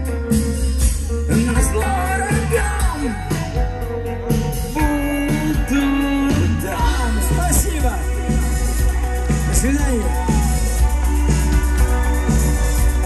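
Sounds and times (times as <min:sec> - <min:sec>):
drums: 0:00.0 - 0:13.0
electric bass: 0:00.0 - 0:13.0
person singing: 0:01.0 - 0:12.9.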